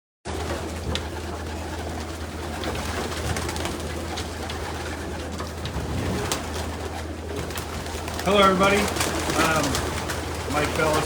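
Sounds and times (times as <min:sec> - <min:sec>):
pigeons cooing: 0:00.3 - 0:11.0
steady low hum: 0:00.3 - 0:11.0.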